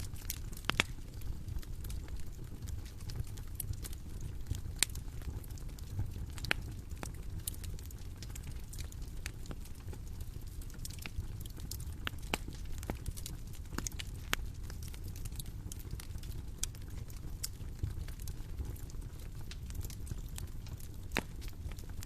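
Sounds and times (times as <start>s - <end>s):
bonfire crackling: 0.0s - 22.0s
pops and snaps of burning wood: 0.0s - 22.0s.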